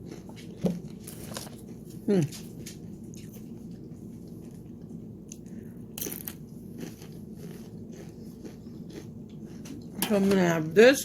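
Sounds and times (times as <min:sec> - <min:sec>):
person chewing crisp chips: 0:00.0 - 0:10.0.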